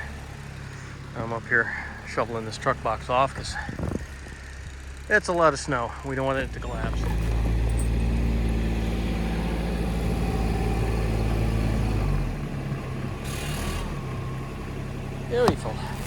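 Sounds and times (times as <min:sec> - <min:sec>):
diesel engine running: 0:00.0 - 0:16.0
plow pushing snow: 0:00.0 - 0:16.0.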